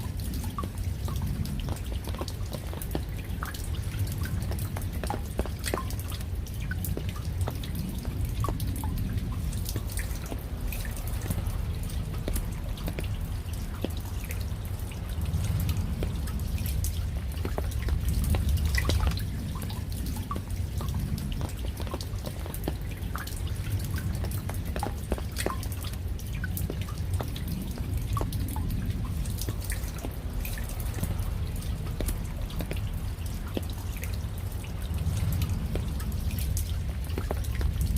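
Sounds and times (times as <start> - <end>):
raindrops dripping and tapping: 0.0 - 37.9
steady low rumble: 0.0 - 37.9.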